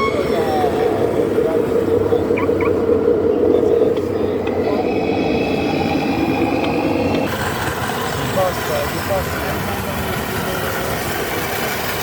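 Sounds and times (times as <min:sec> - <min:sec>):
engine-like drone: 0:00.0 - 0:12.0
high steady whine: 0:00.0 - 0:12.0.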